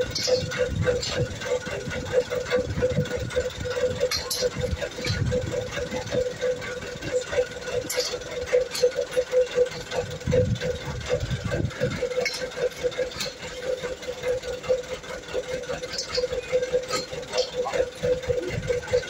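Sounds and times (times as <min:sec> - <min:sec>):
sharp clicks and knocks: 0:00.0 - 0:19.0
small engine running: 0:00.0 - 0:19.0.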